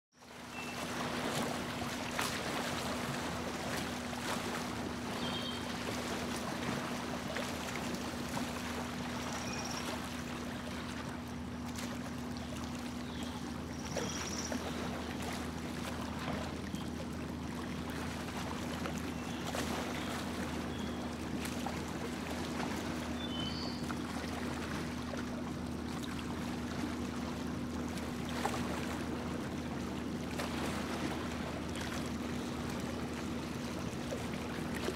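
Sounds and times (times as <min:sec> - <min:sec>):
boat motor humming: 0:00.2 - 0:34.9.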